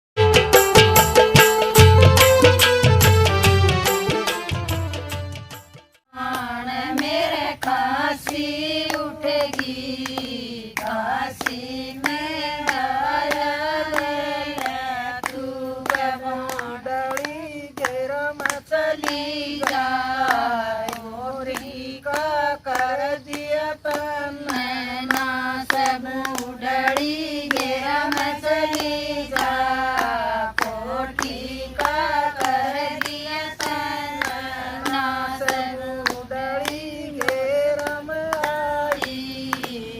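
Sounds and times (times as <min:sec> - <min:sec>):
rhythmic hand claps: 0:00.2 - 0:39.9
women singing unaccompanied: 0:06.1 - 0:39.9.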